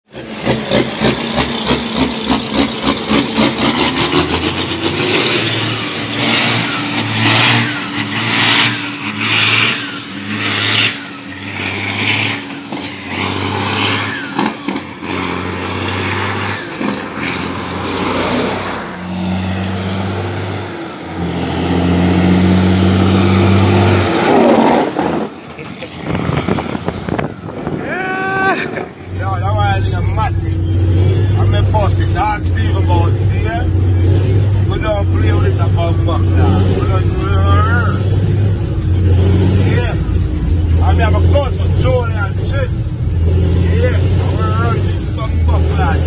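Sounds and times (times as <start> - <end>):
approaching truck engine drone: 0.0 - 46.0
diesel truck engine passing: 0.1 - 46.0.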